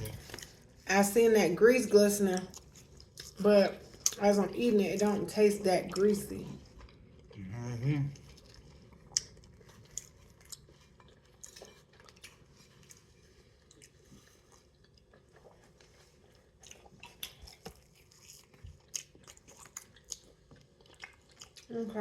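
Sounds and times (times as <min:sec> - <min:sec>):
close-up chewing: 0:00.0 - 0:00.8, 0:02.2 - 0:22.0.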